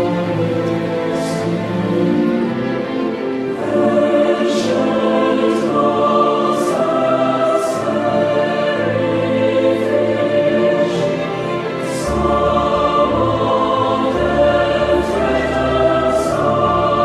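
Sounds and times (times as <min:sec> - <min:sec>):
choral operatic singing: 0:00.0 - 0:17.0.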